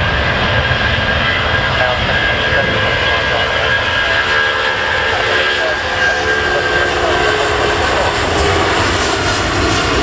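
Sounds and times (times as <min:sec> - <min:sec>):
jet engines whining and rumbling: 0:00.0 - 0:10.0.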